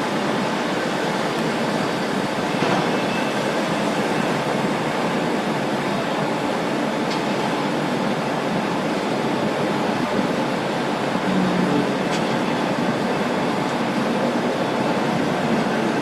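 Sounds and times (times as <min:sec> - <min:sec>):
ferry engines running: 0:00.0 - 0:16.0
rushing water: 0:00.0 - 0:16.0.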